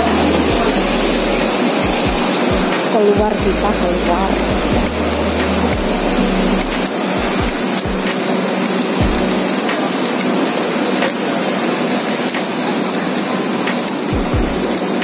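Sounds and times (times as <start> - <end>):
station rushing roar: 0.0 - 15.0
thin high whine: 0.0 - 15.0.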